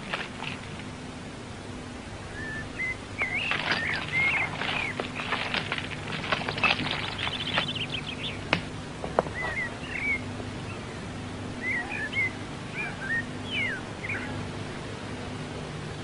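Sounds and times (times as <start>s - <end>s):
birds chirping: 0.0s - 15.7s.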